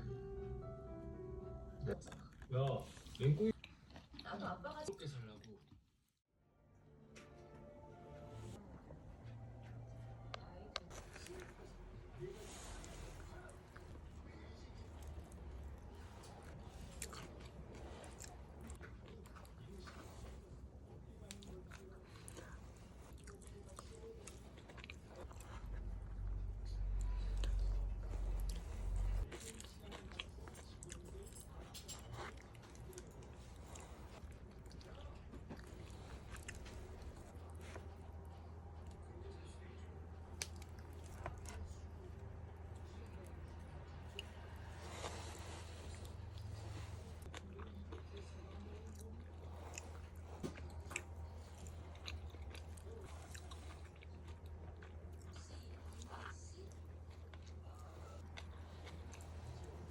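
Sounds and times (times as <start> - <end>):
person chewing food: 1.9 - 4.3, 10.3 - 59.9
steady low hum: 7.6 - 59.9.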